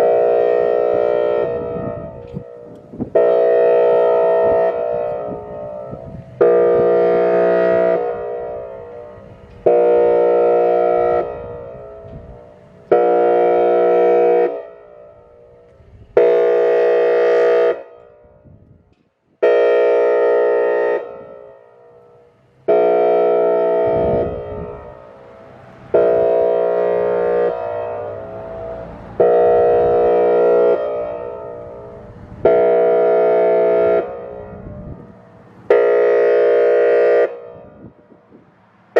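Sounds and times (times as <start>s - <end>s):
warning siren airhorn blasts: 0.0s - 38.9s.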